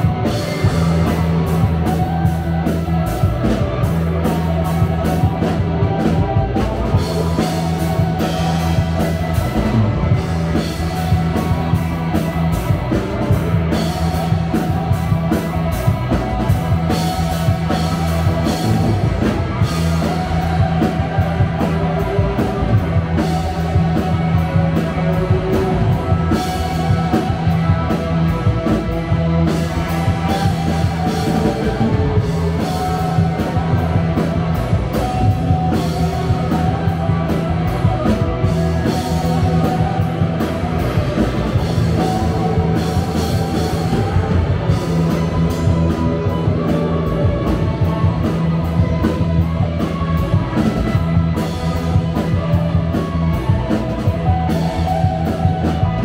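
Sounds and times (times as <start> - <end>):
electric guitar: 0.0 - 56.0
rock band playing: 0.0 - 56.0.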